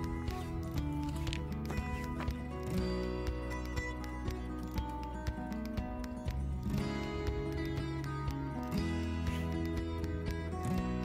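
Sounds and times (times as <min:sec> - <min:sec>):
music with held chords and beat: 0:00.0 - 0:11.0.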